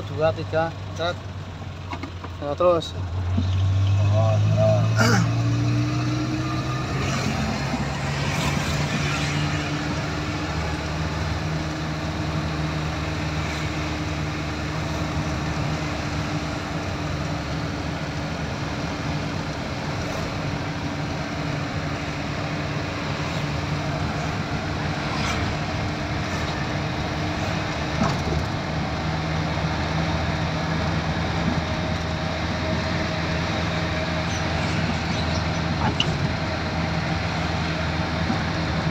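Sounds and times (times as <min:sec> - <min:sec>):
road noise: 0:00.0 - 0:38.9
vehicle engine running: 0:00.0 - 0:38.9.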